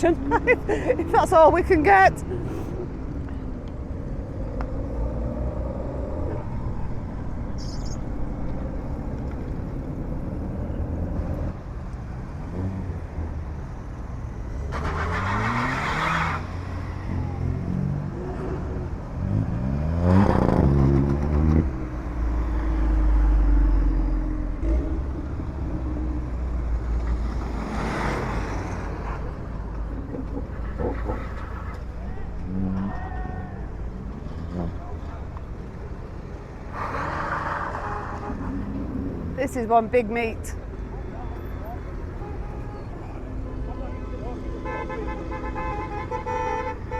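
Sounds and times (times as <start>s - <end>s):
car engines revving: 0.0s - 46.9s.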